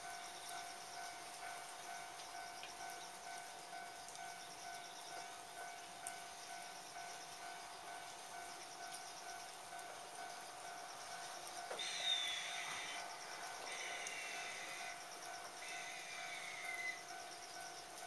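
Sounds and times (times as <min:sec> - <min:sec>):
level-crossing alarm ringing: 0:00.0 - 0:17.9
rain hiss: 0:00.0 - 0:18.0.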